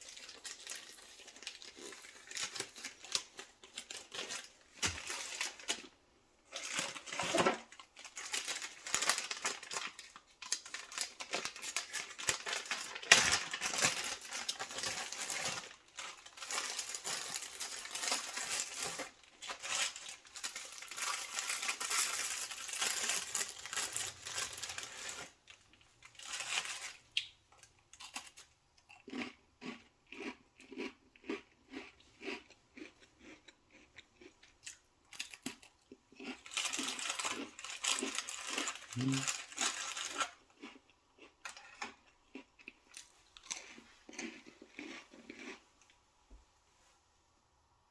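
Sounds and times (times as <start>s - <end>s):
food packaging crinkling and tearing: 0.0s - 28.5s, 34.7s - 40.8s, 41.4s - 45.6s.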